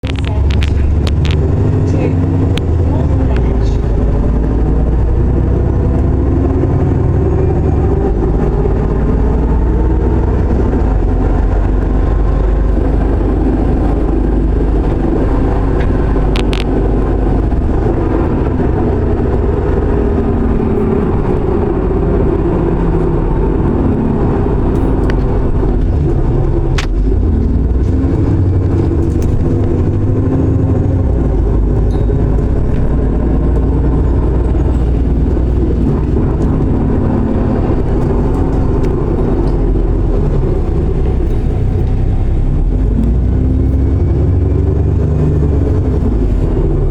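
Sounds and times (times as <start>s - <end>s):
bus engine drone: 0.0s - 46.9s.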